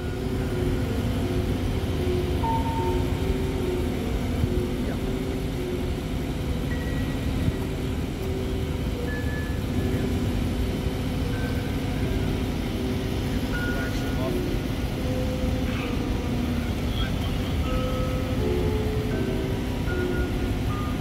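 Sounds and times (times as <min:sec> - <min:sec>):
engine rumbling: 0:00.0 - 0:21.0
faint whining tones: 0:00.0 - 0:21.0.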